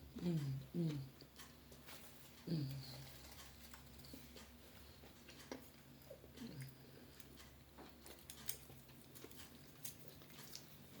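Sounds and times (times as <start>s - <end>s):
person chewing with mouth clicks: 0.1s - 11.0s.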